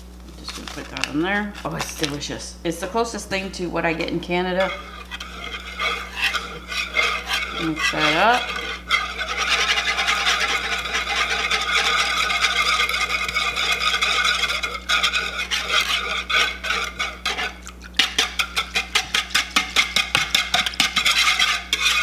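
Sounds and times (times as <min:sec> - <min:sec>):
wire whisk beating liquid in bowl: 0:02.9 - 0:22.0.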